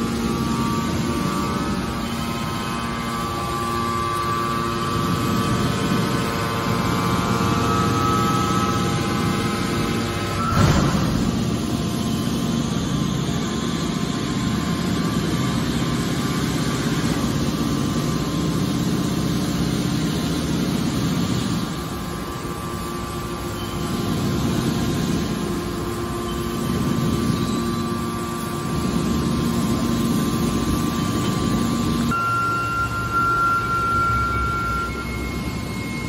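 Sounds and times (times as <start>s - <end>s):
hydraulic baler humming: 0.0s - 36.0s.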